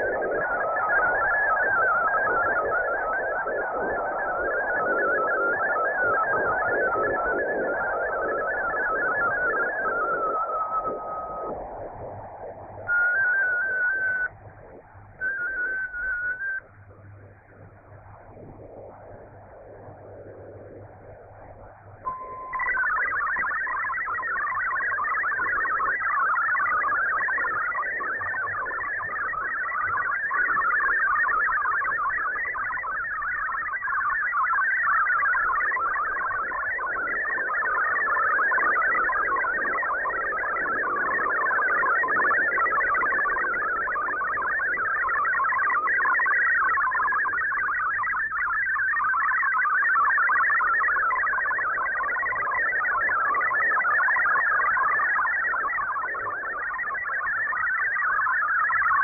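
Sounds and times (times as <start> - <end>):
warbling digital radio tones: 0.0 - 59.0.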